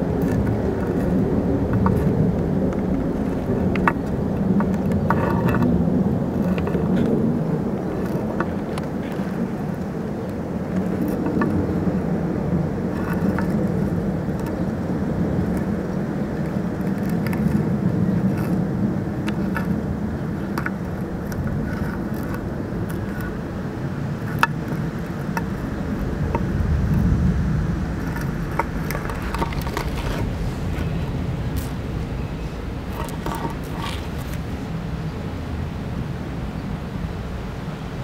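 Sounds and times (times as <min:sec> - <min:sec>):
distant engine drone: 0:00.0 - 0:38.0.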